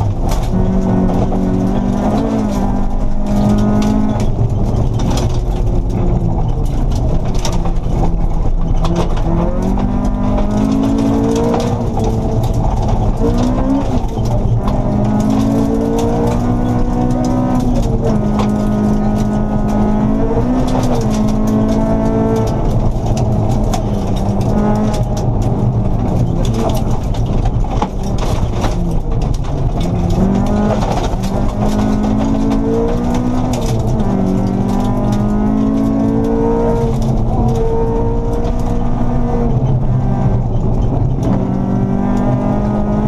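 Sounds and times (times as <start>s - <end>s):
car engine revving: 0.0s - 43.0s
tyres rumbling on gravel: 0.0s - 43.0s.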